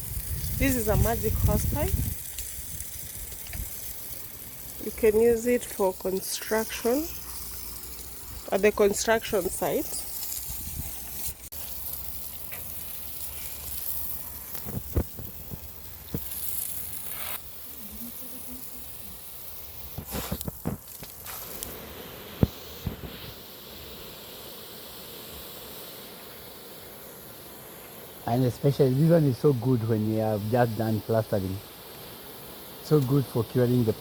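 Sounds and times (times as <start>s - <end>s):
water hissing from hose nozzle: 0.0s - 34.0s.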